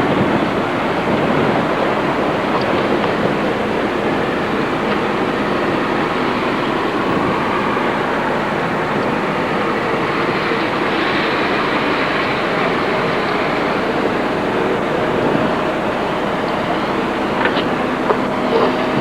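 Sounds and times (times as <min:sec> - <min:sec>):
train rolling on tracks: 0:00.0 - 0:19.0.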